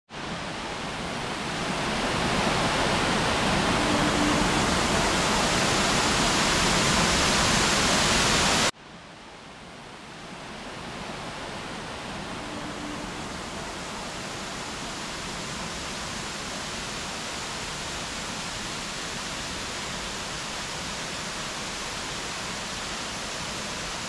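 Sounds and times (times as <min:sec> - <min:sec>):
waterfall roaring: 0:00.2 - 0:24.0.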